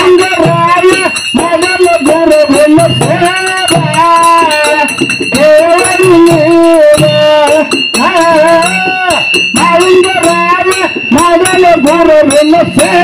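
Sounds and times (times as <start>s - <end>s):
person singing folk song: 0.0s - 13.0s.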